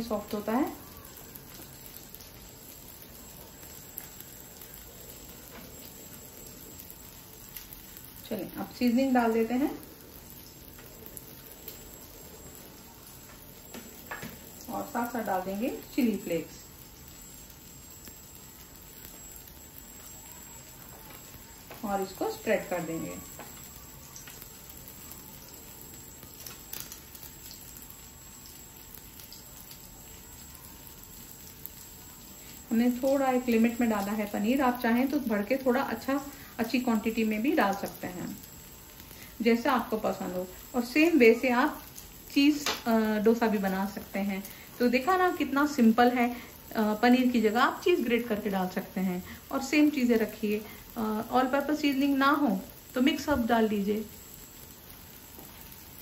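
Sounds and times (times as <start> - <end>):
dosa sizzling on a pan: 0.0 - 56.0.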